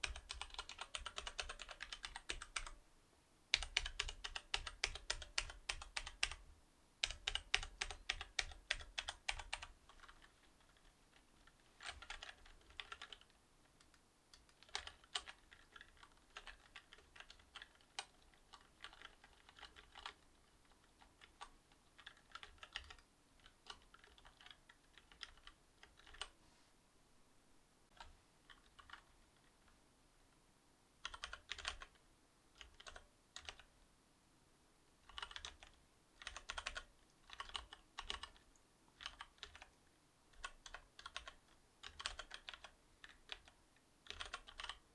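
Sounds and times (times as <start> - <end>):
typing on mechanical keyboard: 0.0 - 2.8, 3.5 - 6.4, 7.0 - 26.4, 27.9 - 29.1, 31.0 - 32.0, 32.6 - 33.7, 35.0 - 44.8.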